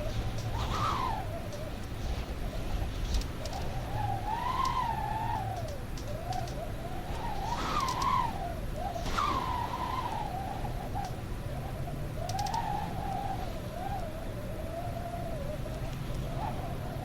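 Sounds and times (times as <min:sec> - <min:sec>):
wind howling: 0:00.0 - 0:17.0.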